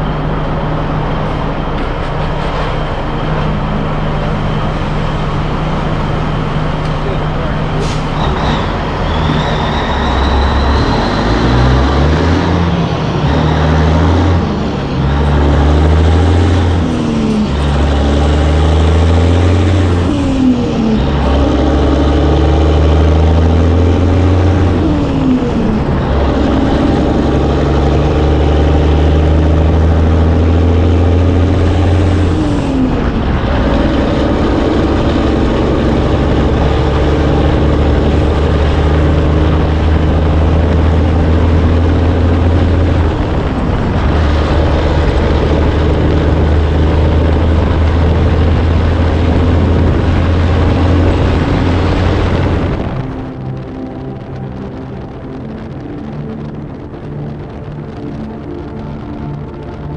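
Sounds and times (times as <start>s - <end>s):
diesel truck engine shifting gears: 0.0s - 59.9s.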